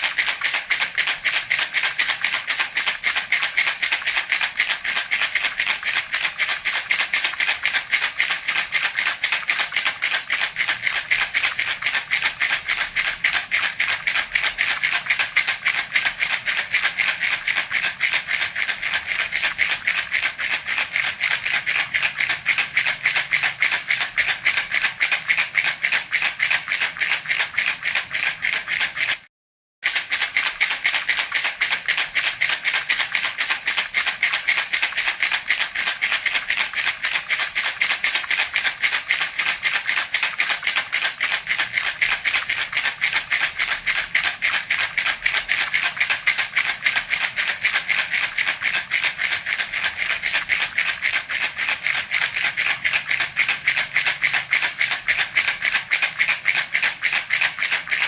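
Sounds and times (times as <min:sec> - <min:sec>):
baby rattle shaken: 0:00.0 - 0:58.0.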